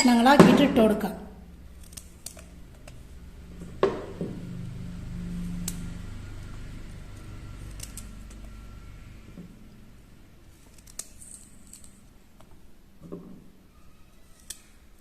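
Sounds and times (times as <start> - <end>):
low steady hum: 0.0 - 14.1.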